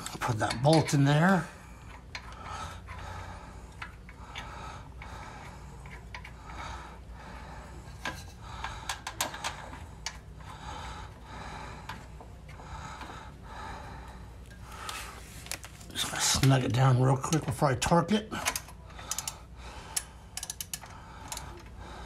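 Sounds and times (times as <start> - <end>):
person breathing: 1.4 - 15.6, 18.3 - 22.0.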